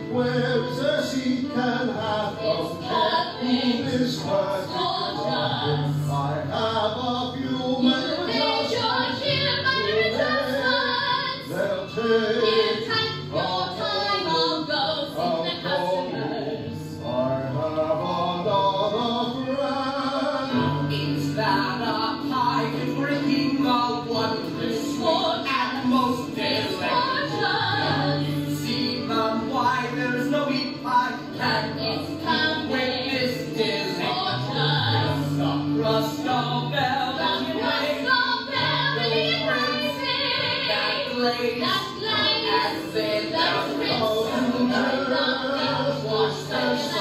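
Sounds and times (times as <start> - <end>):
instrumental accompaniment: 0.0 - 47.0
singers carrying a melody: 0.0 - 47.0.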